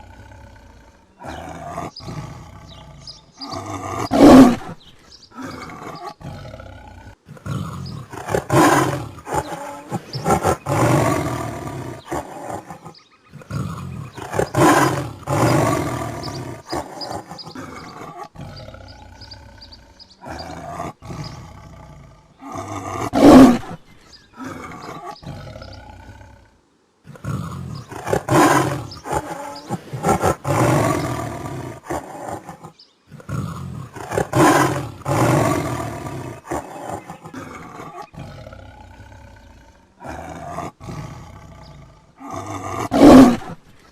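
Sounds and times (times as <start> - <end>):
tiger roaring and growling: 0.0 - 43.9.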